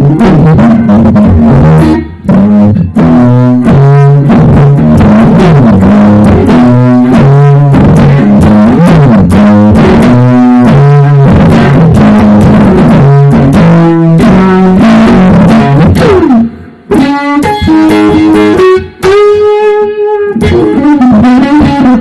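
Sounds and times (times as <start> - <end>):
loud electric guitar: 0.0 - 22.0.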